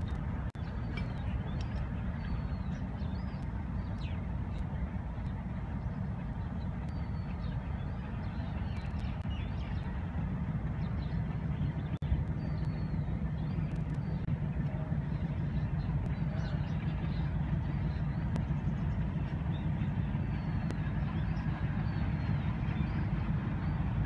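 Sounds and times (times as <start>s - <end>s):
distant locomotive rumble: 0.0s - 24.0s
engine hum: 0.0s - 24.0s
small birds chirping: 0.0s - 24.0s.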